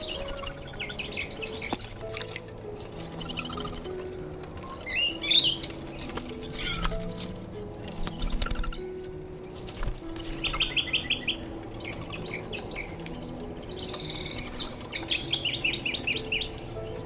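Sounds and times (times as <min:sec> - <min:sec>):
wings flapping: 0:00.0 - 0:11.2, 0:12.9 - 0:16.3.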